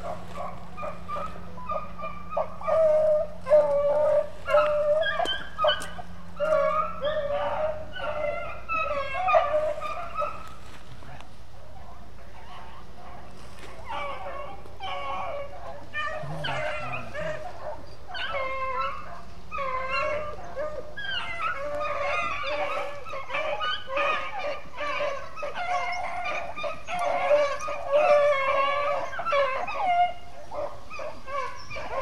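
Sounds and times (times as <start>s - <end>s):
pack of dogs baying: 0.0s - 32.0s.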